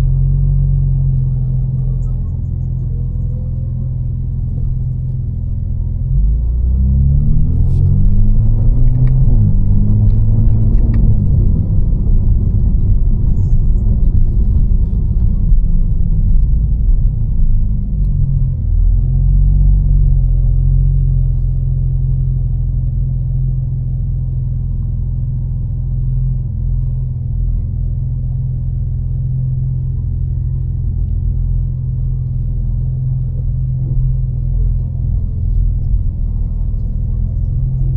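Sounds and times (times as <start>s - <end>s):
car engine accelerating and cruising: 0.0s - 37.9s.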